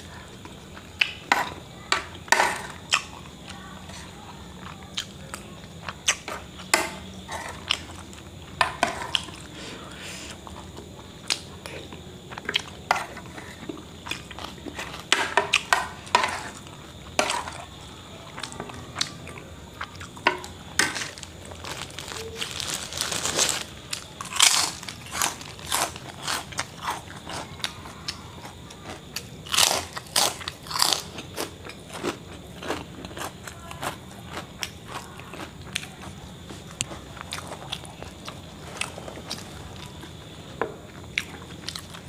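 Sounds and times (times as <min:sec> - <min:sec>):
crunching and chewing snack: 0:00.0 - 0:42.0.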